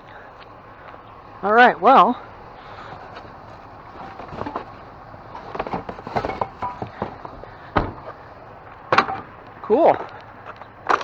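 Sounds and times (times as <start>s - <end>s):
objects clattering in a dumpster: 2.2s - 11.0s.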